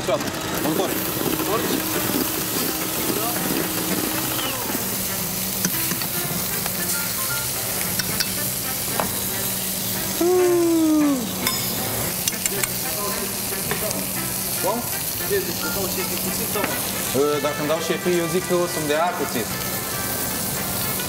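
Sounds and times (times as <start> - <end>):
utensils clicking against a pan: 0.6 - 9.4, 11.2 - 19.8
meat sizzling in a skillet: 0.6 - 21.0.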